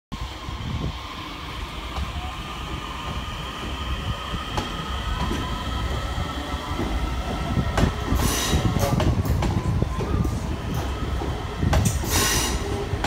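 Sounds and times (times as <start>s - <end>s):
electric train whine: 0.1s - 13.0s
train wheels rumbling on rails: 0.1s - 13.0s.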